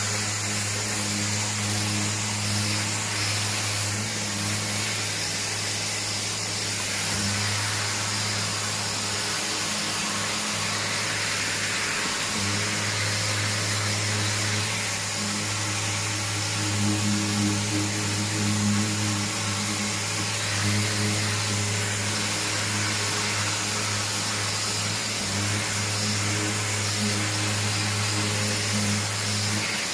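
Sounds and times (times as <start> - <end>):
power sander running: 0.0 - 29.9.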